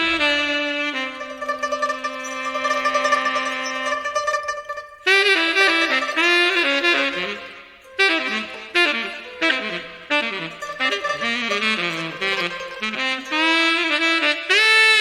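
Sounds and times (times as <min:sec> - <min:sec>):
solo saxophone playing: 0:00.0 - 0:15.0.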